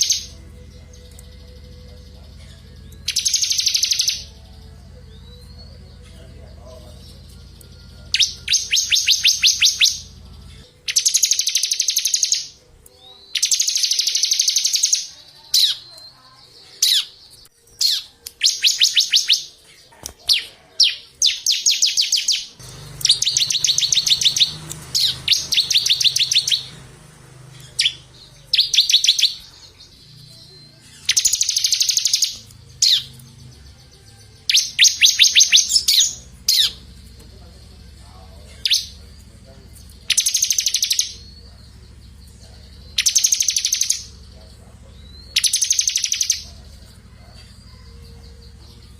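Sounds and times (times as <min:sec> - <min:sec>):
songbird singing high trills: 0:00.0 - 0:16.1, 0:20.3 - 0:39.1, 0:39.7 - 0:48.9.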